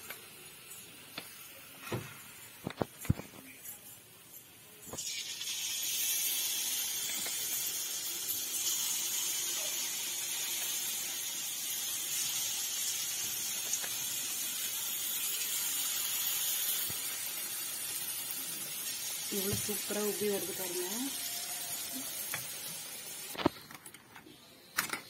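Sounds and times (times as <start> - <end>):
batter sizzling in hot oil: 0.0 - 3.1, 4.8 - 23.7.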